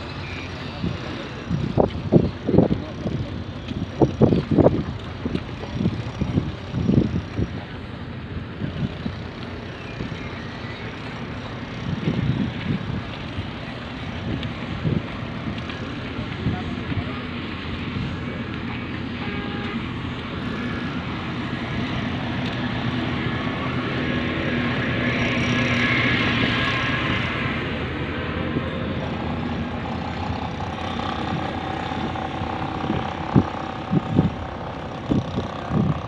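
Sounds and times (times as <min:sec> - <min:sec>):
traffic rumble: 0:00.0 - 0:36.0.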